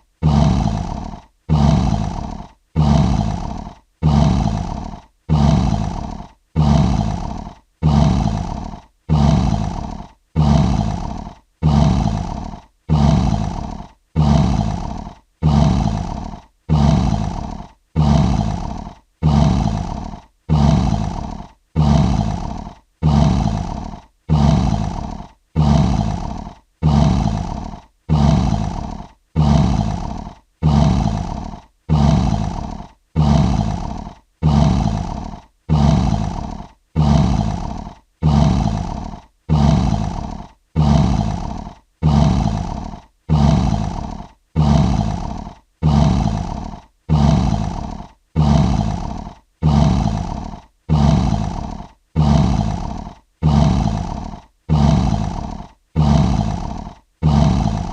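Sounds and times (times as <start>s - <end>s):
lion roaring: 0.2s - 57.9s.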